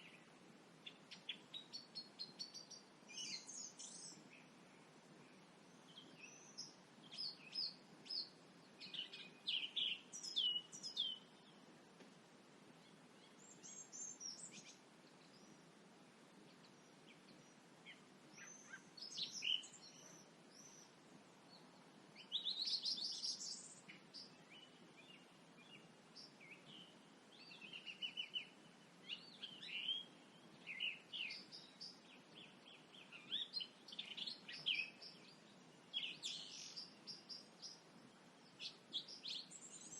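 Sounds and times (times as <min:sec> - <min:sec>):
faint steady hum: 0:00.0 - 0:39.9
songbirds singing and chirping: 0:00.0 - 0:39.9.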